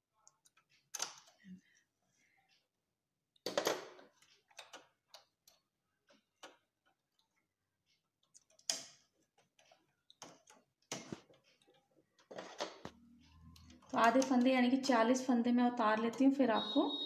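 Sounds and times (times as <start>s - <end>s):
knitting machine needles clicking: 0.2s - 1.4s, 3.4s - 7.4s, 8.1s - 17.0s.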